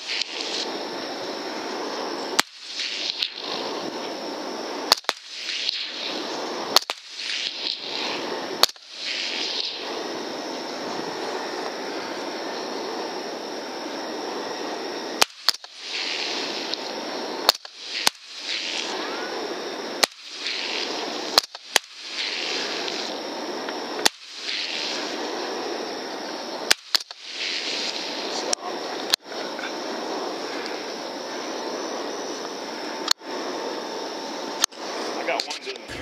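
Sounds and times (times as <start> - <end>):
background hiss: 0.0 - 36.0.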